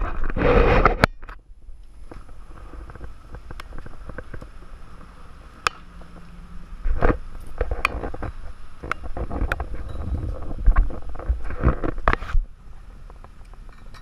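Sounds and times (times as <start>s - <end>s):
wind gusting over microphone: 0.0s - 13.9s
raindrops ticking on hard surfaces: 1.2s - 14.0s.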